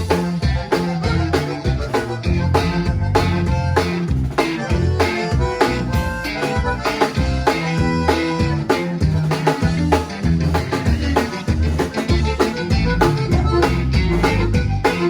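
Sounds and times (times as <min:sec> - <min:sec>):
accordion: 0:00.0 - 0:15.0
bass: 0:00.0 - 0:15.0
drums keeping a steady beat: 0:00.0 - 0:15.0.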